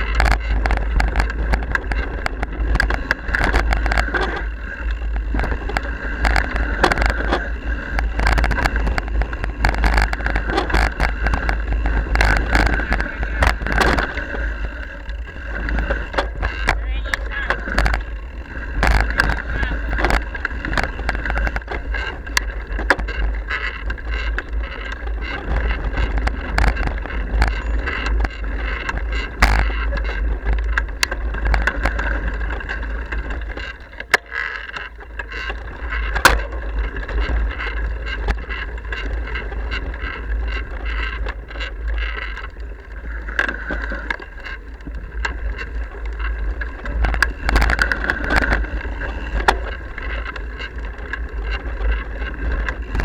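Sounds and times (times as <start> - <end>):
bike rattling over rough trail: 0.0 - 53.0.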